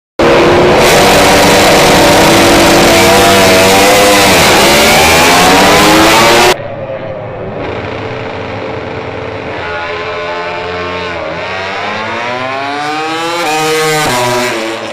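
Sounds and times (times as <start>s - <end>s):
racing motorcycle engine revving: 0.2s - 6.6s, 7.5s - 14.9s.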